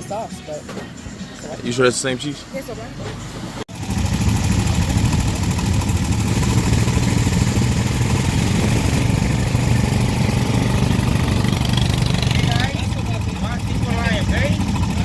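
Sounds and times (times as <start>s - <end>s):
vehicle engine running steadily: 2.5s - 15.0s.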